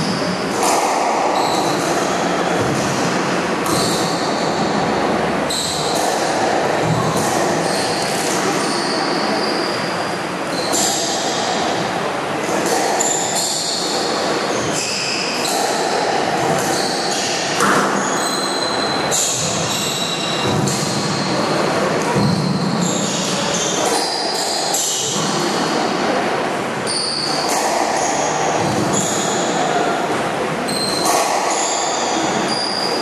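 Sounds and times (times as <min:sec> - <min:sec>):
hall background noise: 0:00.0 - 0:33.0.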